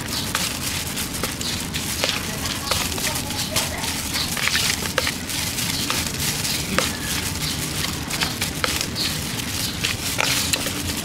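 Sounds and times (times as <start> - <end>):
metal spoon mixing in plastic bowl: 0.0 - 11.0.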